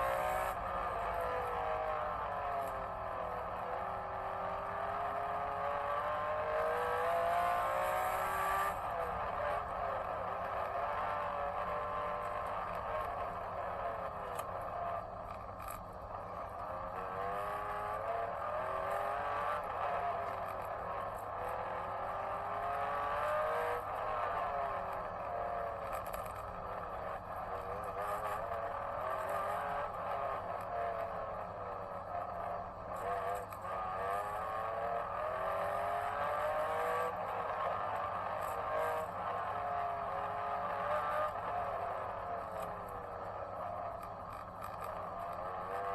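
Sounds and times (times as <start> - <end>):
small racing engines revving: 0.0 - 45.9.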